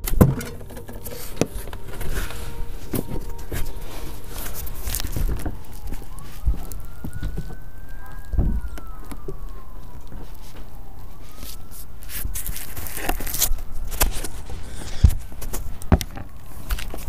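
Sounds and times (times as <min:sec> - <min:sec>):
distant siren: 0:00.0 - 0:17.0.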